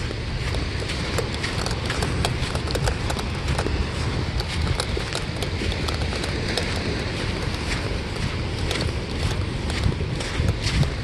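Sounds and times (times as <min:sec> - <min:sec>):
footsteps in dry sand: 0:00.0 - 0:11.0
wind rumbling on microphone: 0:00.0 - 0:11.0.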